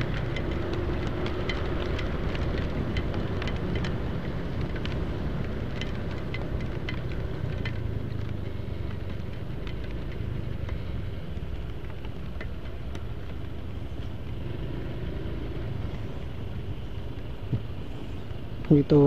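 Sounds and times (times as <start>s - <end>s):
rain ticking on camera: 0.0s - 19.0s
scooter engine rumbling: 0.0s - 19.0s
traffic engines: 0.0s - 19.0s.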